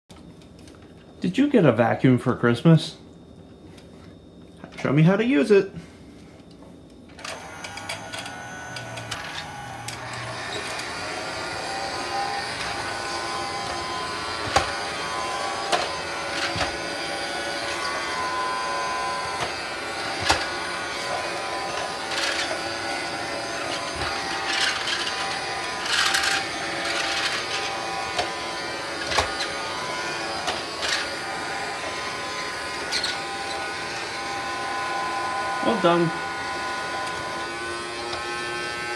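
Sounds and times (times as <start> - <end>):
toy vacuum motor whirring: 7.1 - 38.9.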